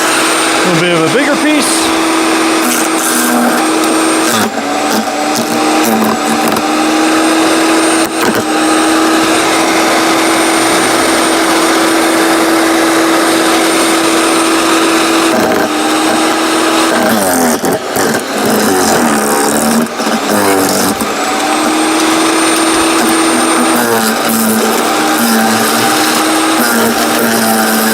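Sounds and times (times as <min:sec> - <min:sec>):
chipper grinding rush: 0:00.0 - 0:27.9
wood chipper motor humming: 0:00.0 - 0:27.9.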